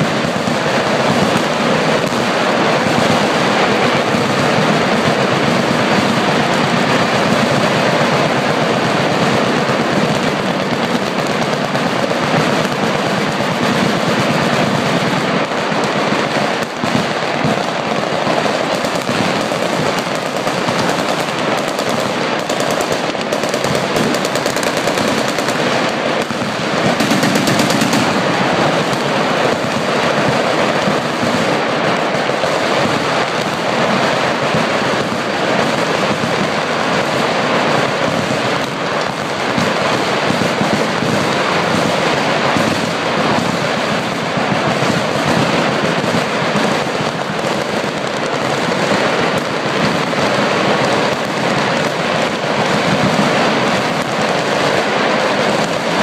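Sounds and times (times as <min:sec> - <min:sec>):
rapid machine gun fire: 0:00.0 - 0:56.0.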